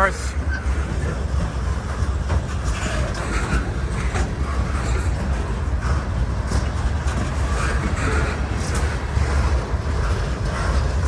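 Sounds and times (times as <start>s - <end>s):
freight train rumbling past: 0.0s - 11.0s
wheels clanking and clicking: 0.1s - 11.0s.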